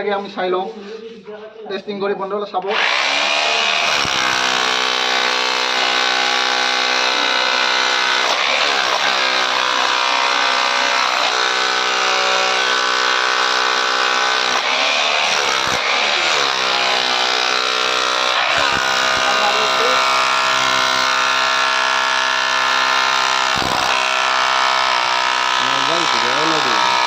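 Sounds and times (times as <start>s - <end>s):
rotary hammer breaking stone: 2.9s - 27.0s.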